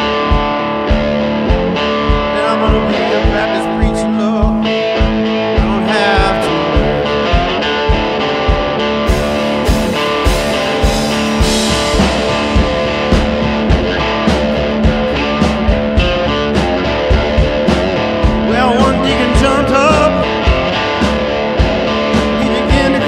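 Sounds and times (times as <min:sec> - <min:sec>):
rock song with guitar and drums: 0:00.0 - 0:23.0.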